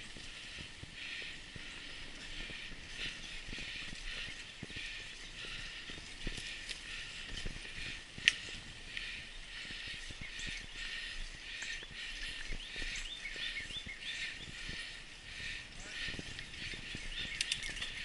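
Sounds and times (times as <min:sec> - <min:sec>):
bike tyres rolling on dirt: 0:00.0 - 0:18.0
birds chirping: 0:00.0 - 0:18.0.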